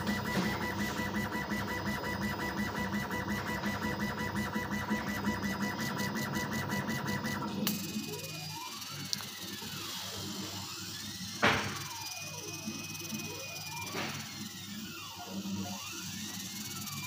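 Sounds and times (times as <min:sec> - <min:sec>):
laser cutter head buzzing: 0:00.0 - 0:17.0.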